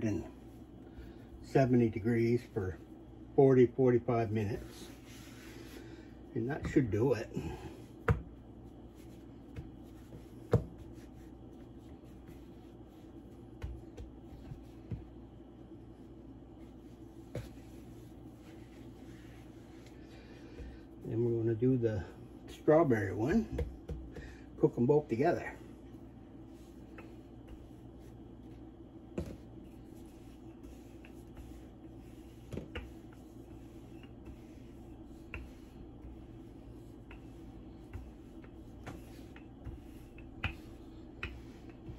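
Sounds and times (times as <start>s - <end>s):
faint steady hum: 0.0s - 41.9s
hands rubbing dough on board: 0.0s - 41.9s.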